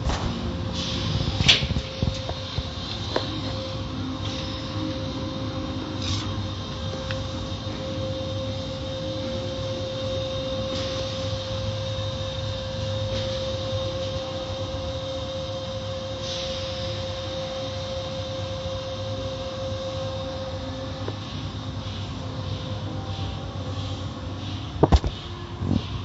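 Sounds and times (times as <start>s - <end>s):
motor hum and whine: 0.0s - 26.0s.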